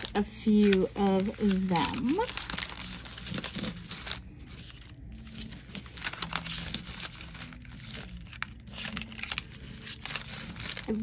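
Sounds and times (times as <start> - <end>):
crinkling packets: 0.0 - 11.0.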